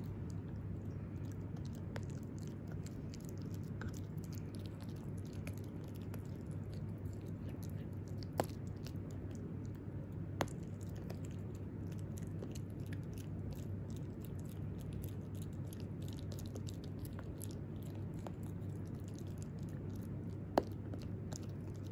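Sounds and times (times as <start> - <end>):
puppy chewing a chew stick: 0.0 - 21.9.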